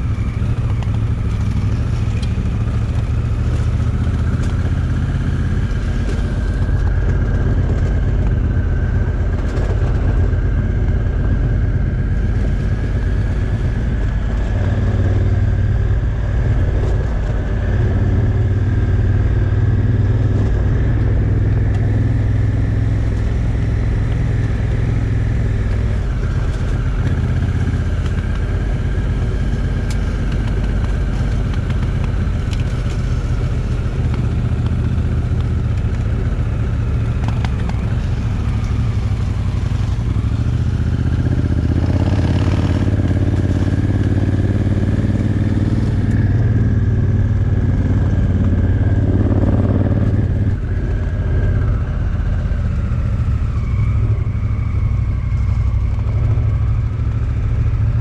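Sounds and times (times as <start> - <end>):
motorcycle engine droning: 0.0 - 58.0.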